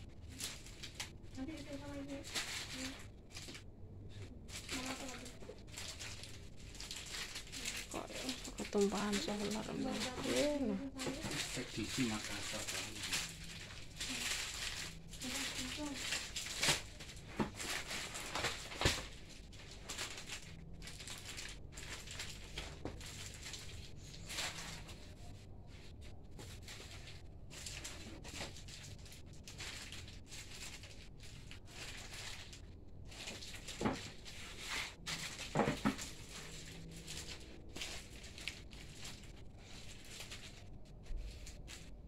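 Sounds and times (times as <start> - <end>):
plastic bags rustling and crinkling: 0.0 - 42.0.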